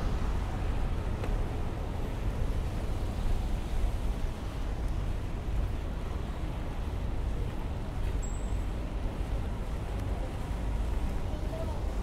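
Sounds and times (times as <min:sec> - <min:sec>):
street ambience rumble: 0:00.0 - 0:12.0.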